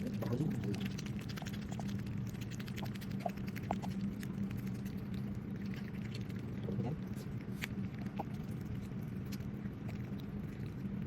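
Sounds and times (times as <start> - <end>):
cat chewing food: 0.0 - 11.0
steady low hum: 0.0 - 11.0.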